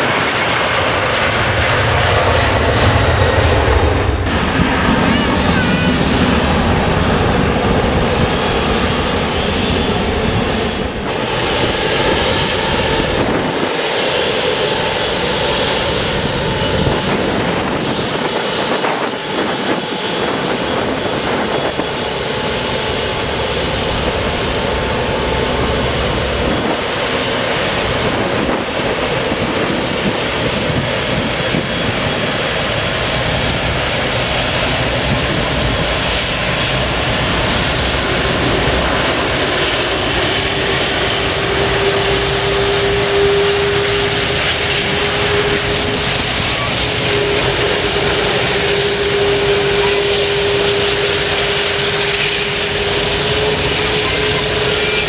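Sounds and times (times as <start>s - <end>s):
airliner engines running: 0.0s - 55.0s.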